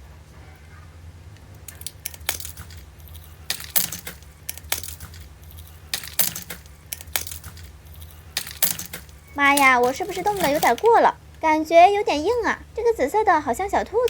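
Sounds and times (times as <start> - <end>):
low steady hum: 0.0 - 14.0
water beads crackling and snapping: 1.4 - 14.0.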